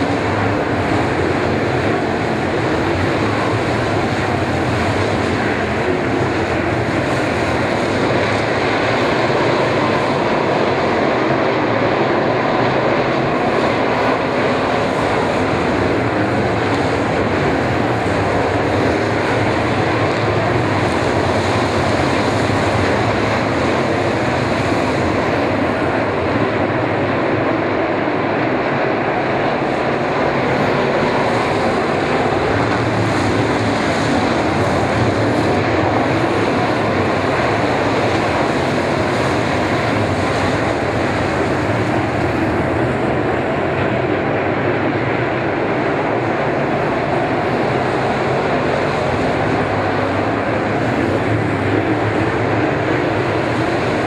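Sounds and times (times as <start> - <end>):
race car engines roaring: 0.0 - 54.0.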